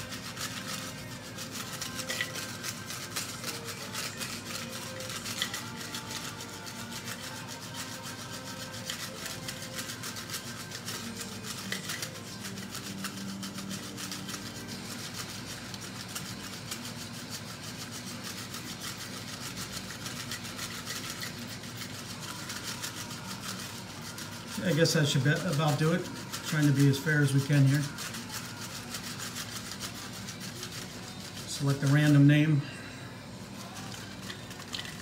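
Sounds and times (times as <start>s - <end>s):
paper slips rustling in bowl: 0.0s - 35.0s.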